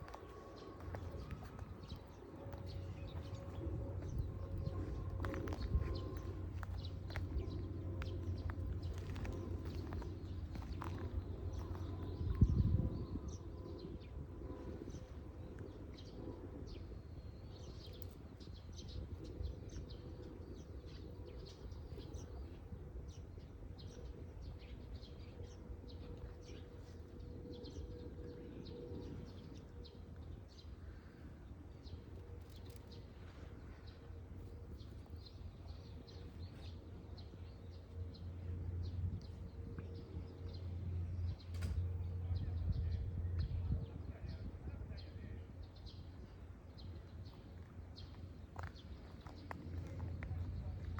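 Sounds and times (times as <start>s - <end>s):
birds chirping: 0.0s - 50.9s
low outdoor rumble: 0.0s - 50.9s.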